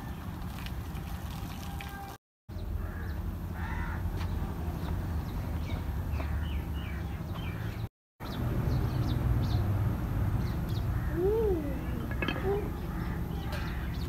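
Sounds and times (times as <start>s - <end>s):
low background rumble: 2.5s - 14.0s
small birds chirping: 2.5s - 14.0s.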